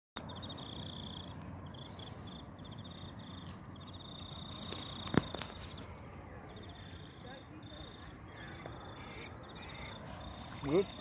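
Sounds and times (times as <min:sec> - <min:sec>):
insect chirping trills: 0:00.2 - 0:11.0.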